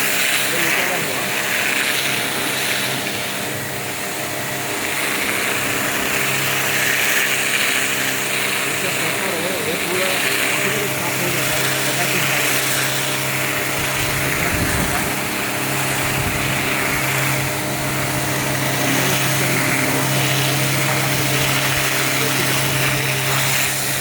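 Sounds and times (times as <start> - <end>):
hiss of spraying water: 0.0 - 24.0
pressure washer motor hum: 0.0 - 24.0.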